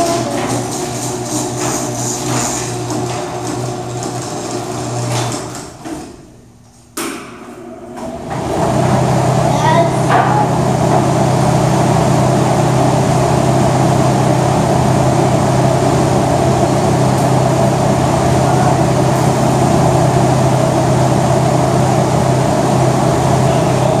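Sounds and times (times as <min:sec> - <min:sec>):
machine motor hum: 0:00.0 - 0:06.6, 0:07.2 - 0:24.0.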